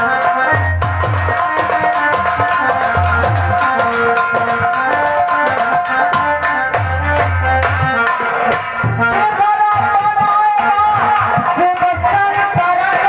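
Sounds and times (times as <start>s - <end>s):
hand drums: 0.0s - 13.0s.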